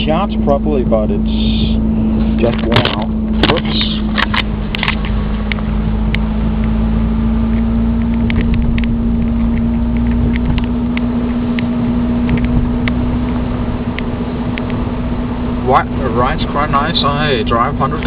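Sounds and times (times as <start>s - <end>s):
car engine drone from inside: 0.0s - 18.0s.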